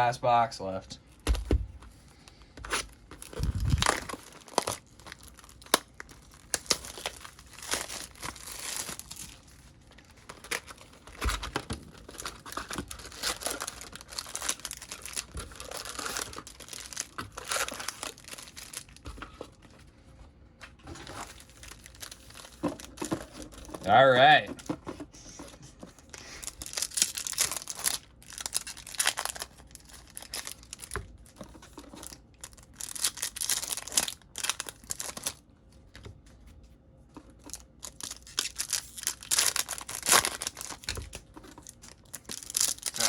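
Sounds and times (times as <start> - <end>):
plastic packaging crinkling: 2.1 - 19.9, 20.9 - 24.9, 26.0 - 35.4, 37.2 - 43.0.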